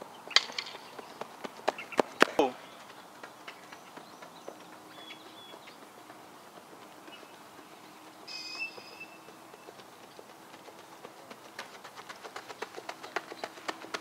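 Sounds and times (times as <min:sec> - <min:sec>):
running footsteps on dirt: 0:00.0 - 0:14.0.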